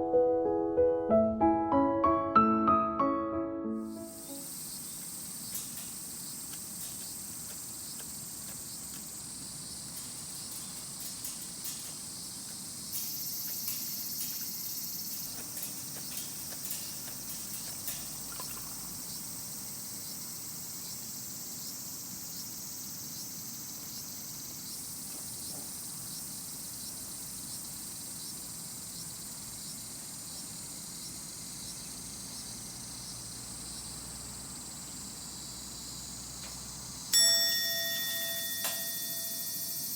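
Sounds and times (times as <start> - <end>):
night insects chirring: 3.7 - 39.9.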